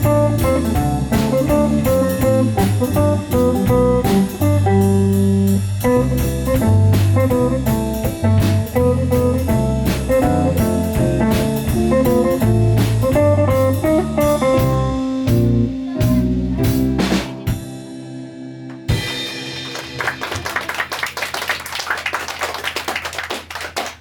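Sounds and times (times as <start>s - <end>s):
guitar melody: 0.0s - 19.9s
bass guitar: 0.0s - 21.0s
jazz blues band playing: 0.0s - 21.2s
drum kit: 0.0s - 22.8s.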